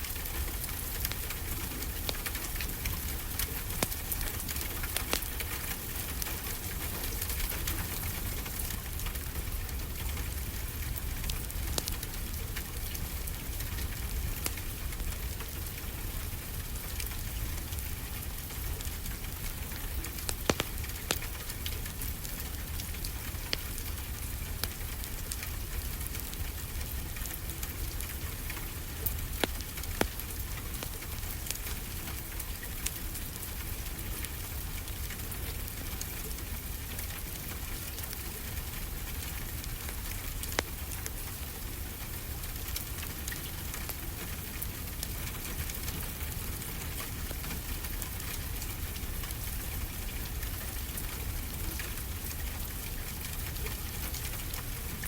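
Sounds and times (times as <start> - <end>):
fire crackling and popping: 0.0 - 55.0
steady rain falling: 0.0 - 55.0.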